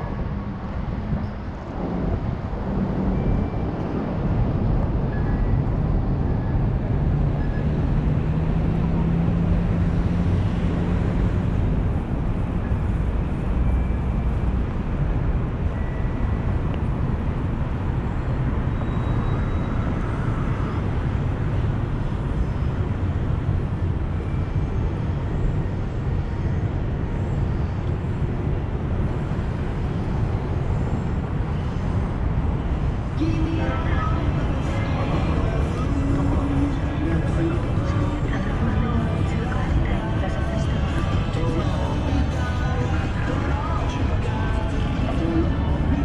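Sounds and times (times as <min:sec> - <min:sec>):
low engine hum: 0:00.0 - 0:46.0
traffic rumble: 0:00.0 - 0:46.0.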